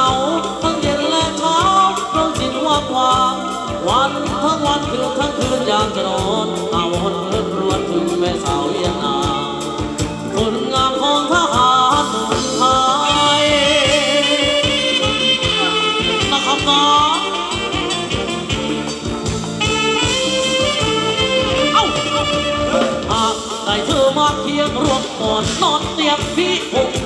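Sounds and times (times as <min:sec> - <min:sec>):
drum beat: 0:00.0 - 0:27.0
sliding melody line: 0:00.0 - 0:27.0.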